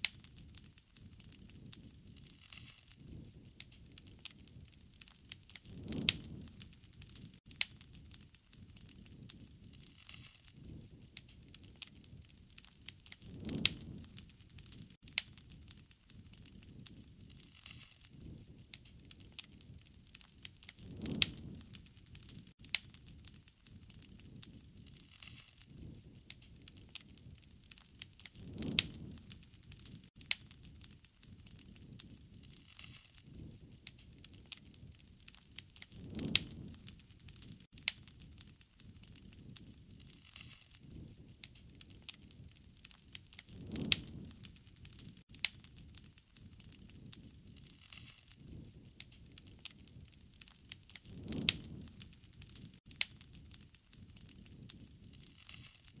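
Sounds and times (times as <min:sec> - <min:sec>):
low rush of flame: 0:00.0 - 0:56.0
wood fire crackling and popping: 0:00.0 - 0:56.0.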